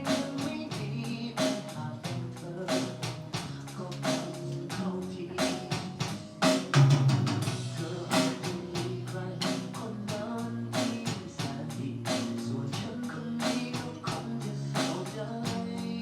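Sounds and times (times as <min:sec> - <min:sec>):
sustained bass notes: 0:00.0 - 0:13.4
drum kit beat: 0:00.0 - 0:16.0.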